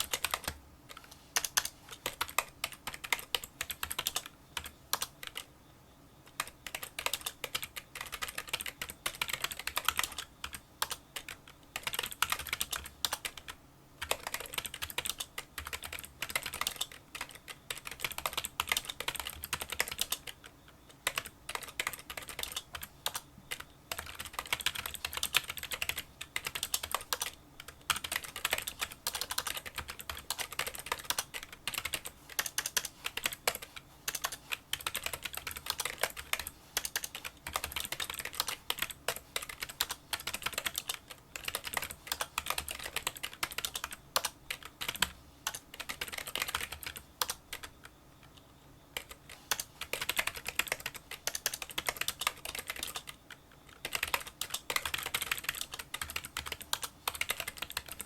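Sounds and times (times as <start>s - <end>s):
fast typing on keyboard: 0.0s - 5.5s, 6.3s - 47.9s, 49.0s - 58.0s.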